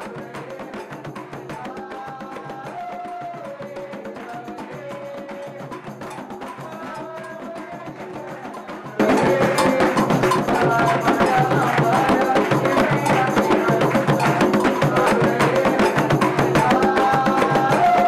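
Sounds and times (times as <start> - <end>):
dense drumming and percussion: 0.0 - 18.0.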